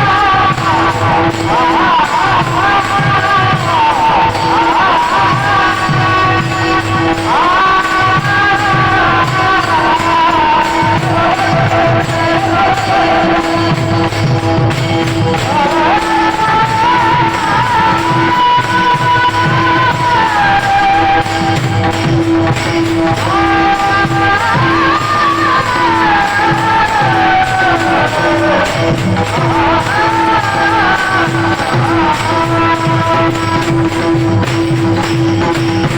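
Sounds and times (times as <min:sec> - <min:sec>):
devotional singing: 0:00.0 - 0:35.9
drum beats: 0:00.0 - 0:35.9
small hand cymbals: 0:00.0 - 0:35.9.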